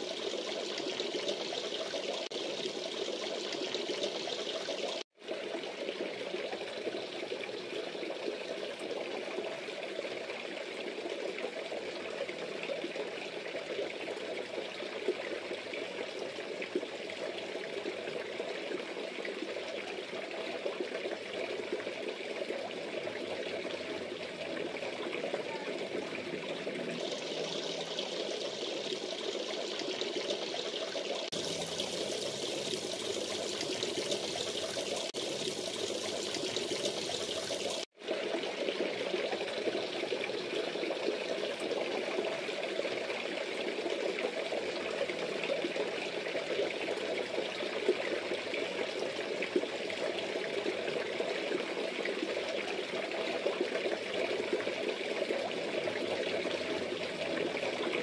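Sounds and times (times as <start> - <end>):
water splashing into a pond: 0.0 - 58.0.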